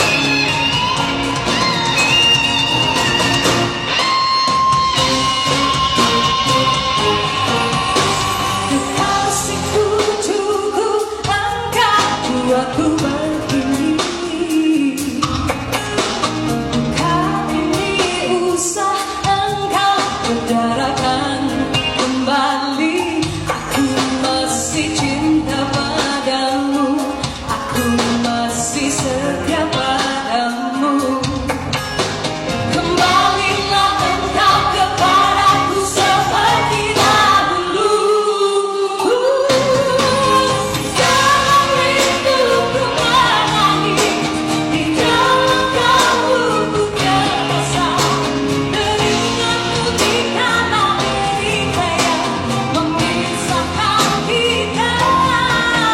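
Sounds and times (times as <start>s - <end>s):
woman singing pop ballad: 0.0s - 16.1s, 16.7s - 31.8s, 32.6s - 55.9s
band accompaniment with drums: 0.0s - 55.9s.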